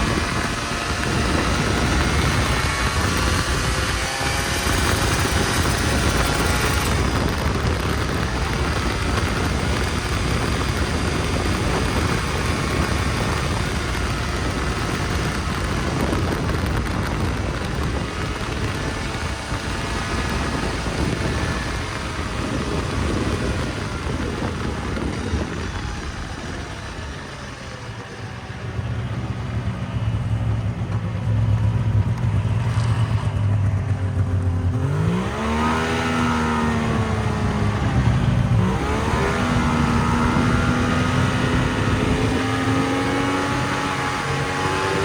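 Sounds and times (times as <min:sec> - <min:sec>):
snowmobile engine running: 0:00.0 - 0:45.0.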